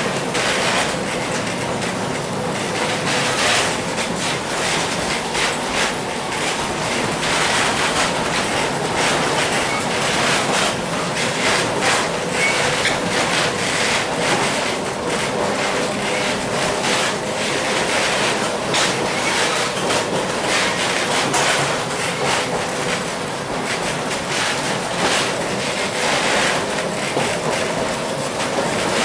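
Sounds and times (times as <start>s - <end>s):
streetcar wheels rumbling on rail: 0.0s - 29.0s.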